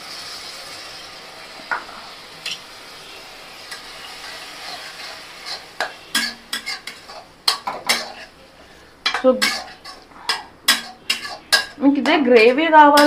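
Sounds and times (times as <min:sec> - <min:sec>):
masala sizzling in a metal pan: 0:00.0 - 0:13.0
spatula scraping a pan: 0:02.4 - 0:13.0.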